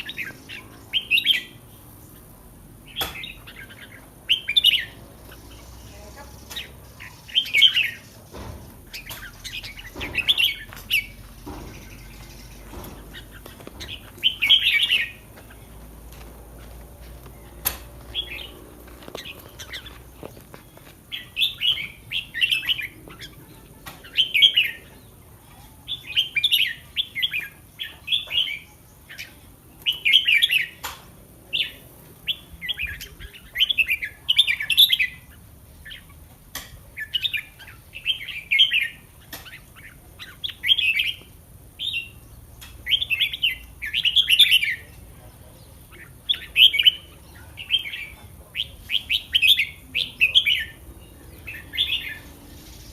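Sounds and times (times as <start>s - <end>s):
bulbul singing: 0.0s - 52.9s.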